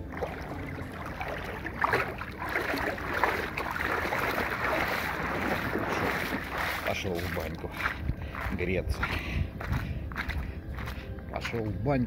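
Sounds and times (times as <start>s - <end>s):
river water splashing: 0.0s - 11.7s.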